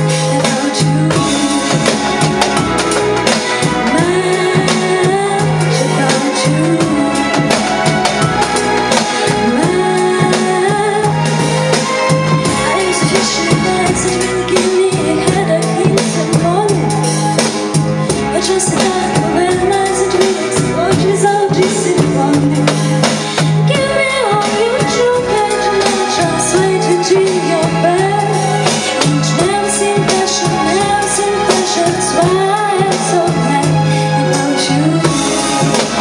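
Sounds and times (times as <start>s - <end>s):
instrumental accompaniment: 0.0s - 36.0s
woman singing a pop song: 0.0s - 36.0s.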